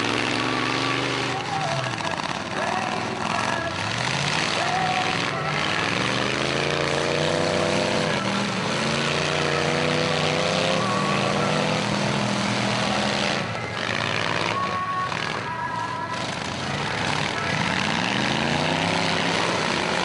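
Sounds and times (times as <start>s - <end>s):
car and truck engines revving: 0.0s - 20.0s.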